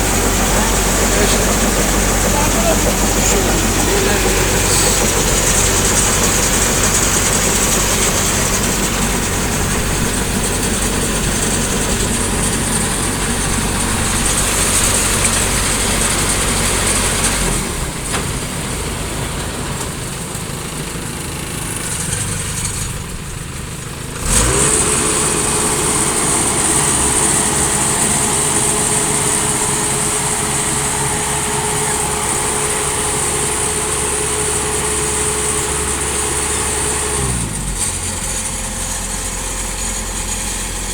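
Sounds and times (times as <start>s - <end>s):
steady machine whine: 0.0s - 18.5s, 24.4s - 40.9s
combine harvester engine running: 0.0s - 40.9s.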